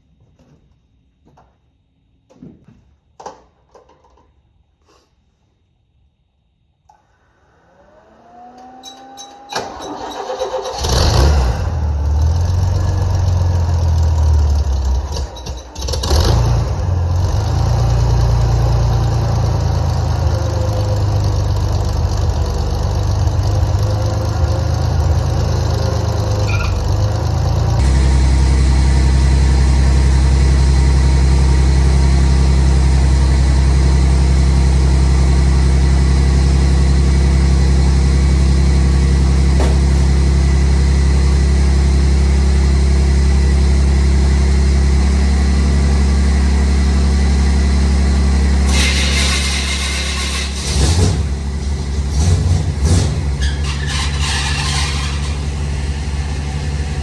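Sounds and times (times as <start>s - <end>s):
vehicle engine idling: 9.8s - 57.0s.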